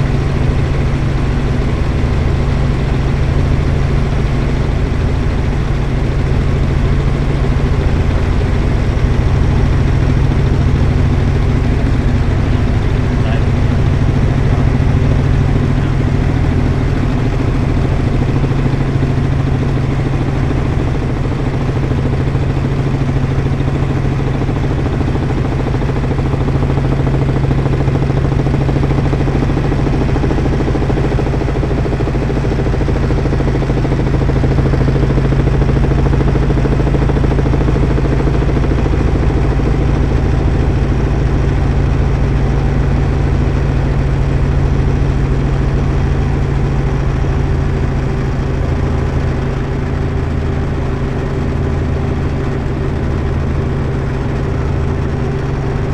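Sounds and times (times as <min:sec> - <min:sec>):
helicopter engine and rotor: 0:00.0 - 0:55.9.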